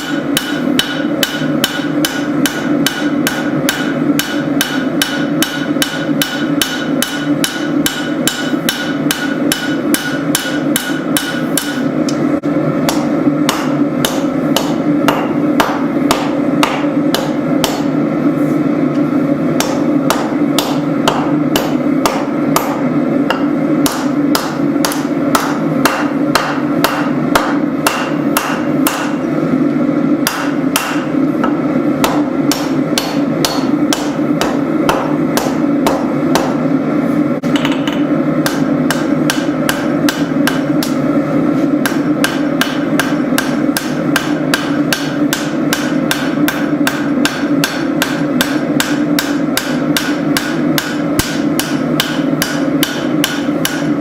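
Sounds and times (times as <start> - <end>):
hammer striking steel on anvil: 0.0 - 12.2, 12.9 - 18.0, 19.6 - 29.2, 30.2 - 36.6, 37.4 - 41.0, 41.8 - 54.0
continuous low hum: 0.0 - 54.0.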